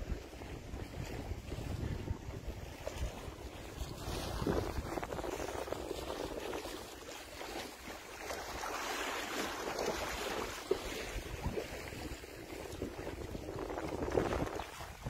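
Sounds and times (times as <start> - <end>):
sea water lapping: 0.0 - 15.0
wind buffeting microphone: 0.0 - 15.0.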